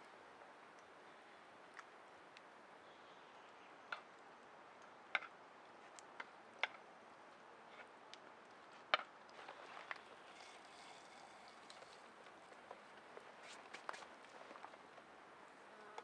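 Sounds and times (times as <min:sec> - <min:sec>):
faint hiss of rain: 0:00.0 - 0:16.0.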